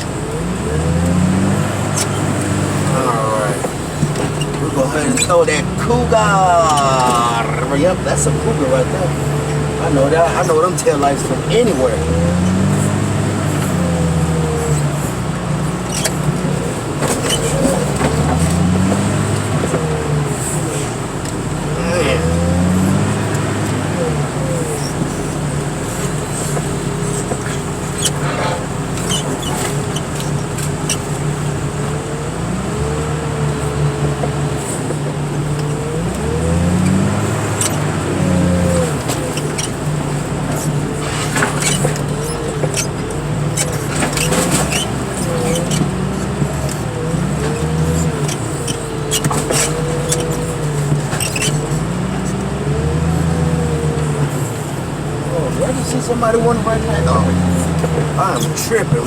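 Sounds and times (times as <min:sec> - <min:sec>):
heavy diesel engine under load: 0:00.0 - 0:59.0.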